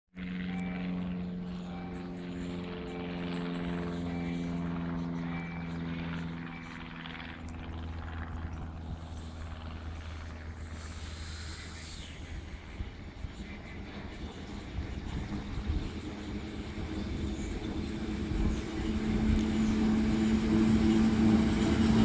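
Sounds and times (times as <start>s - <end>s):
electric locomotive hum: 0.2s - 22.0s
low train rumble: 0.2s - 22.0s.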